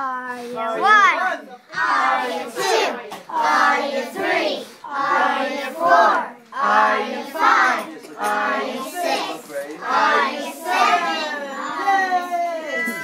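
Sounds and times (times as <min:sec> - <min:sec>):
children singing together: 0:01.7 - 0:12.2.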